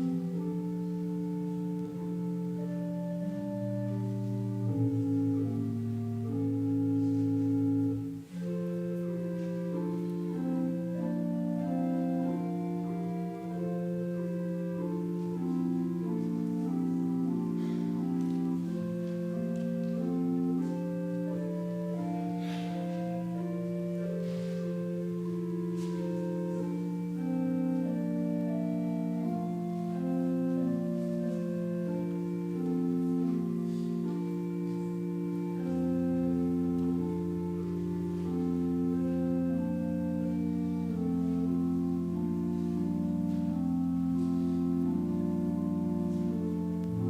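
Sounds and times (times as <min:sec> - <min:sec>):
church organ playing: 0:00.0 - 0:47.0.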